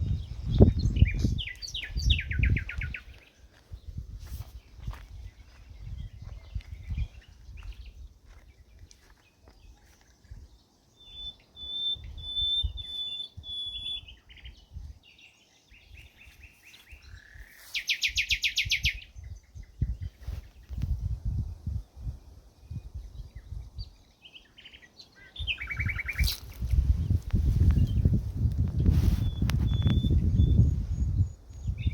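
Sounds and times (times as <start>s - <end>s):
birds singing: 0.0s - 21.0s, 21.8s - 31.9s.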